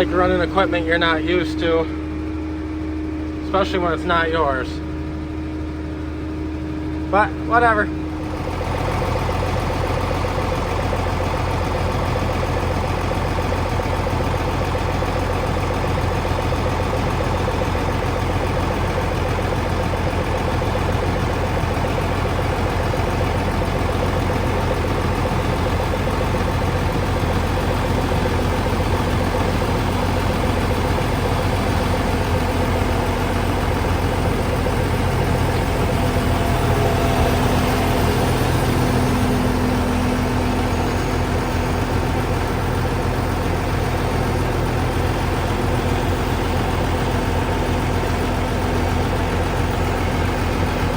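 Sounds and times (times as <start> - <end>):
tractor engine drone: 0.0 - 50.9.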